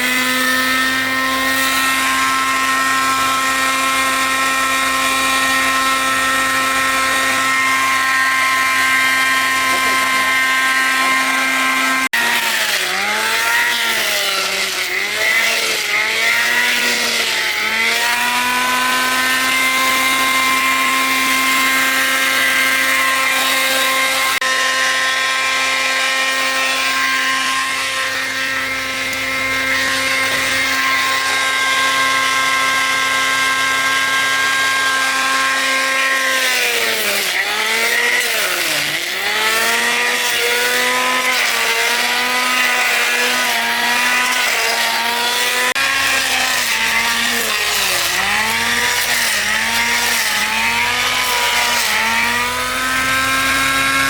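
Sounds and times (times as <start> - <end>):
power tool motor cutting wood: 0.0 - 54.0.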